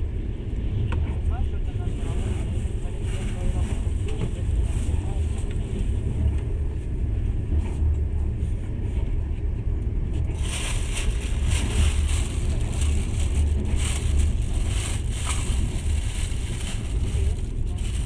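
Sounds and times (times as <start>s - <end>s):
train carriage rumble: 0.0s - 18.0s.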